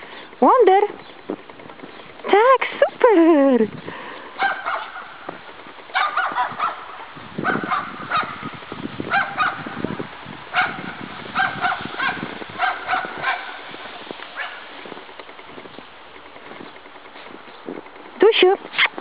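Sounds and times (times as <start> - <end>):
footsteps crunching in snow: 0.2 - 9.9, 10.6 - 19.0.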